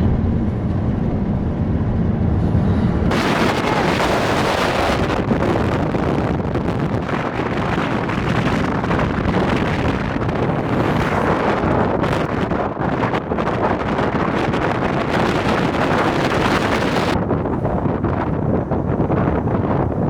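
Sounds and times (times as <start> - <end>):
low vehicle rumble: 0.0 - 20.0
wind buffeting microphone: 0.0 - 20.0.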